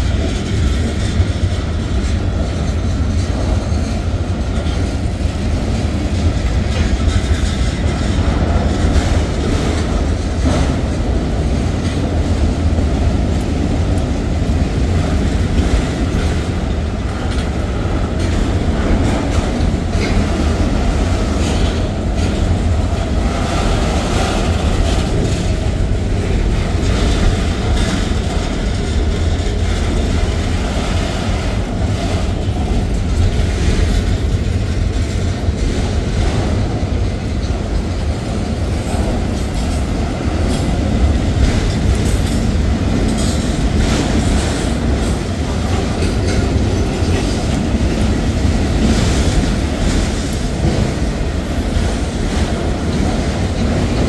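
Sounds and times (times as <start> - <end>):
train wheels rumbling on rail: 0.0 - 54.0
wheels clicking over rail joints: 0.0 - 54.0.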